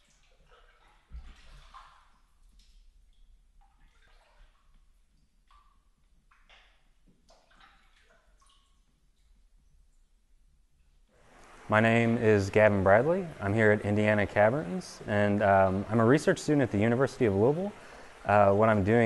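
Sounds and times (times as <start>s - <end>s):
paddle splashing in water: 0.0s - 9.4s, 11.2s - 19.0s.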